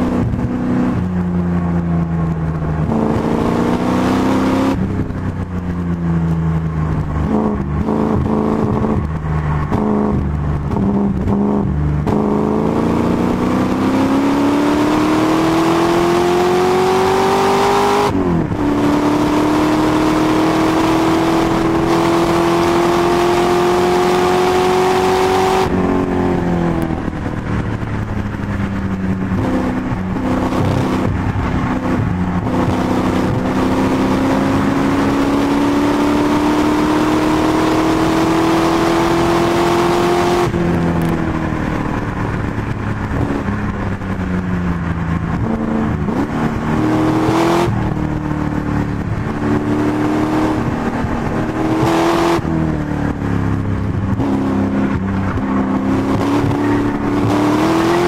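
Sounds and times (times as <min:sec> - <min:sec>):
racing car engine revving: 0:02.2 - 0:05.5, 0:06.9 - 0:58.0.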